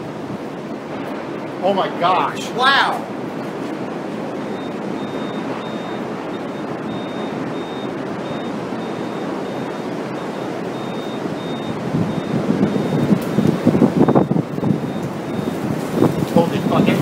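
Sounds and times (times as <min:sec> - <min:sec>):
rushing wind of tornado: 0:00.0 - 0:17.0.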